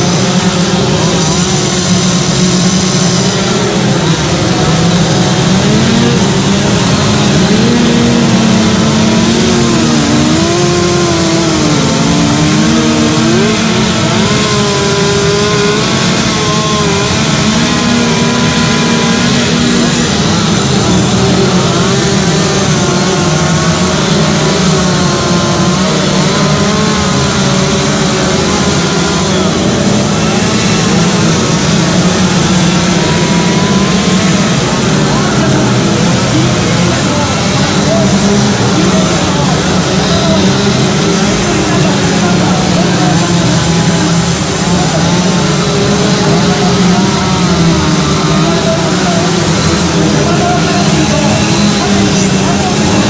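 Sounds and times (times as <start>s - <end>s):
chainsaws cutting wood: 0.0s - 53.0s.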